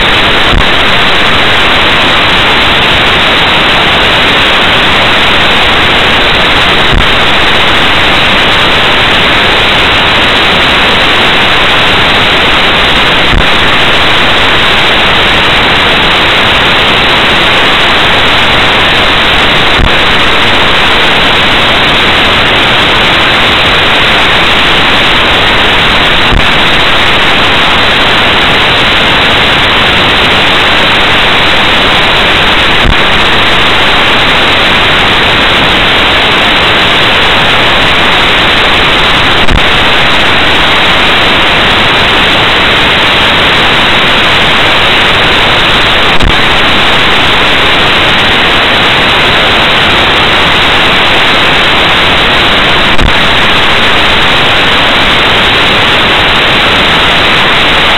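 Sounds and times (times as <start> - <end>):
static hiss: 0.0 - 57.9.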